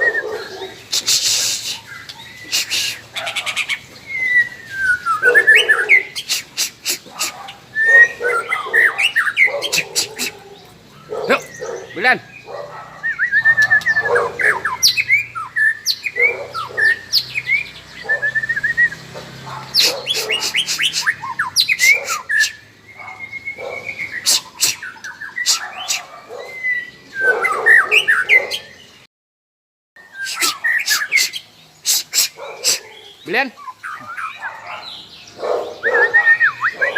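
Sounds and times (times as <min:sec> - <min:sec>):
birds chirping and whistling: 0:00.0 - 0:29.1, 0:30.0 - 0:36.9.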